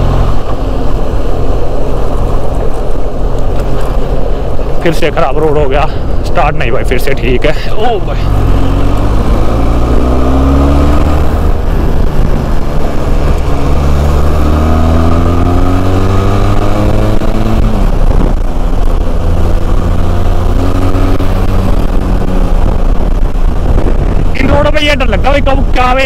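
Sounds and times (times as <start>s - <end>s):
motorcycle engine accelerating: 0.0s - 6.2s, 7.8s - 26.0s.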